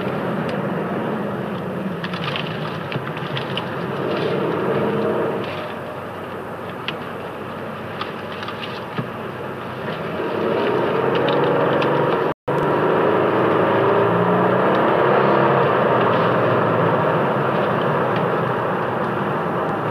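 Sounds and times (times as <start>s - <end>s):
car engine accelerating: 0.0s - 6.8s, 9.5s - 19.9s.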